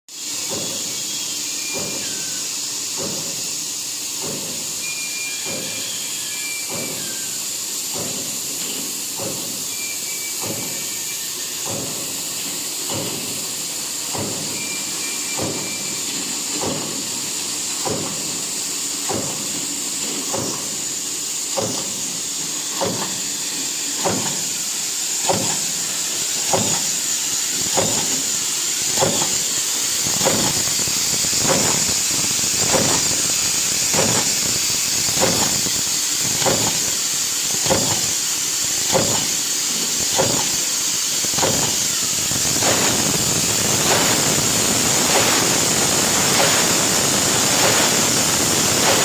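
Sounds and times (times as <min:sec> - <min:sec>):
stamping press striking: 0:00.5 - 0:01.0, 0:01.7 - 0:02.2, 0:02.9 - 0:03.5, 0:04.2 - 0:04.8, 0:05.4 - 0:05.9, 0:06.7 - 0:07.2, 0:07.9 - 0:09.7, 0:10.3 - 0:11.0, 0:11.6 - 0:20.9, 0:21.5 - 0:23.3, 0:24.0 - 0:38.2, 0:38.8 - 0:49.0.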